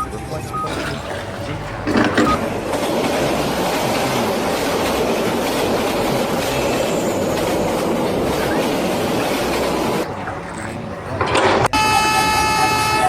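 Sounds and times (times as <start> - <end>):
mechanical rumbling and clattering: 0.7 - 11.8.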